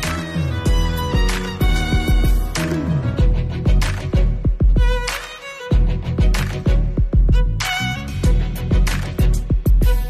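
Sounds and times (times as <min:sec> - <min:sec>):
bass drum beat: 0:00.0 - 0:10.0.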